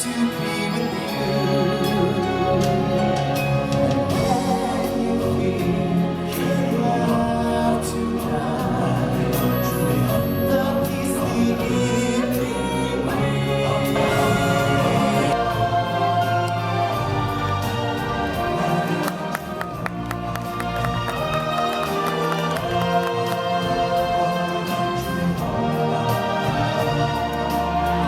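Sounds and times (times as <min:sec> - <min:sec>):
choir singing: 0:00.0 - 0:28.0
instrumental music: 0:00.0 - 0:28.0.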